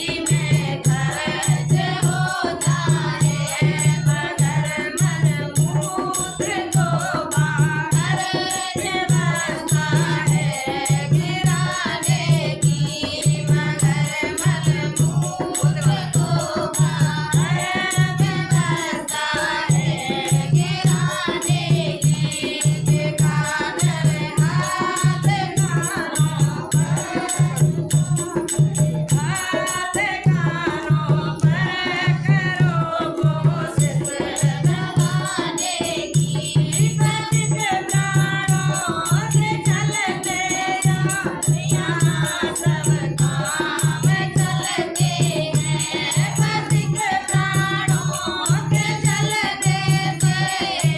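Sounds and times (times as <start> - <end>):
group singing devotional song: 0.0 - 50.9
steady drum beat: 0.0 - 50.9.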